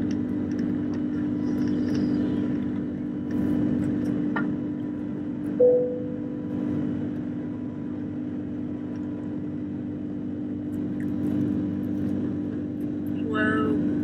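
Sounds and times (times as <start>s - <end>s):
aircraft engines hum in cabin: 0.0s - 14.0s.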